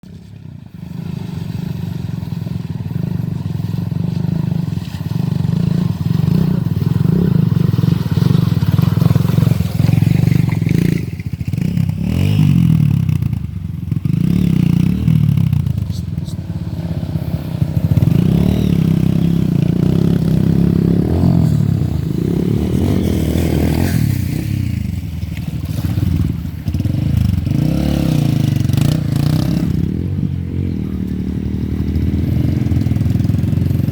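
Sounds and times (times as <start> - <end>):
off-road vehicle engine revving: 0.0 - 33.9.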